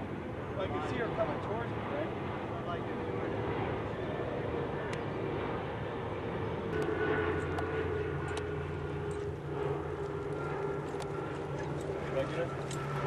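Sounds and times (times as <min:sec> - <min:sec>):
engine drone: 0:00.0 - 0:13.0
outdoor background noise: 0:00.0 - 0:13.0.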